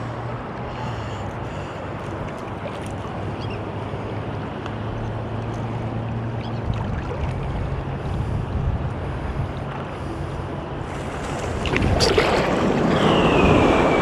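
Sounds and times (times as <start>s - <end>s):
steady low hum: 0.0s - 14.0s
surf washing on beach: 1.4s - 14.0s
wind buffeting microphone: 2.1s - 14.0s.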